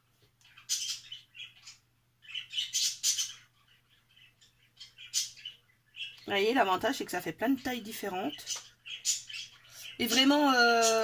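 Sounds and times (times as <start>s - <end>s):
small bird chirping: 0.2s - 11.0s.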